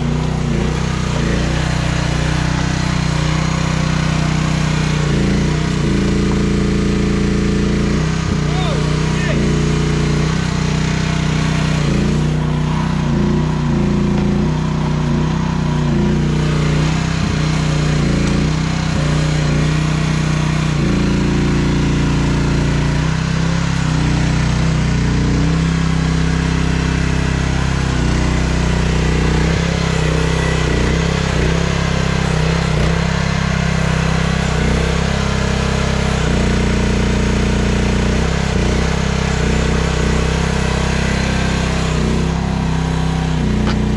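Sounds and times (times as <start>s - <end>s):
excavator diesel engine digging: 0.0s - 43.9s.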